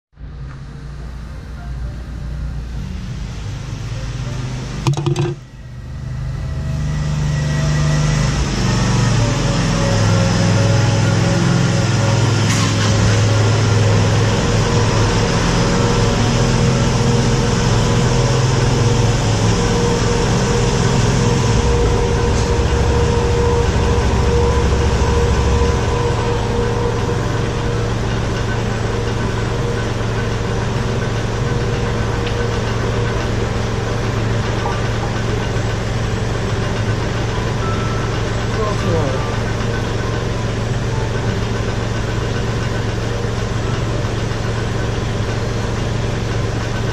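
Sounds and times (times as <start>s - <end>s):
tractor diesel engine idling: 8.0s - 46.9s.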